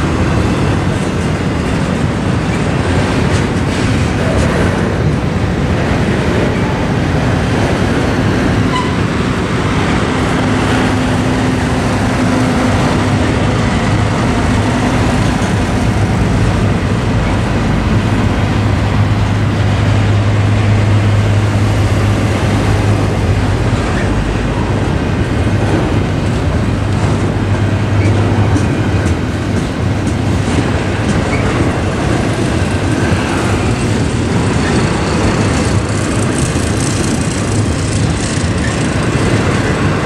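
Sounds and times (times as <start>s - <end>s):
freight train wheels rumbling: 0.0s - 40.0s.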